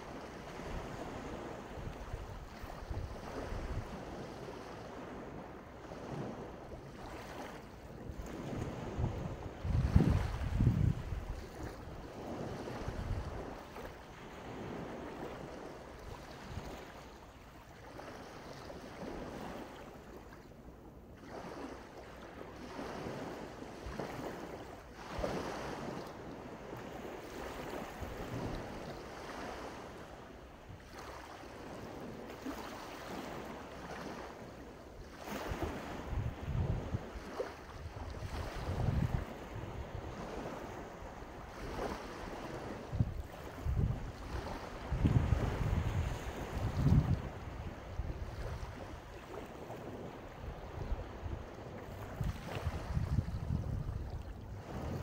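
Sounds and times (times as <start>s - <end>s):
wind rumbling on microphone: 0.0s - 17.3s, 22.6s - 55.0s
sea waves washing onto beach: 0.0s - 20.3s, 21.2s - 55.0s.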